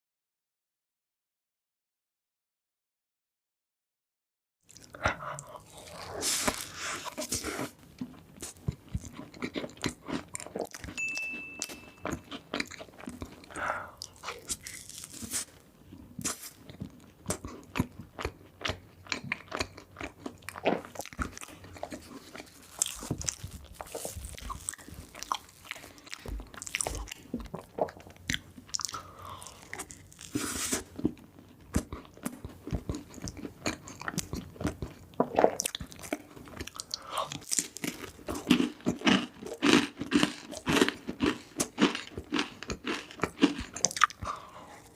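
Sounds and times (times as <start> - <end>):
chewing and crunching: 4.7 - 44.9.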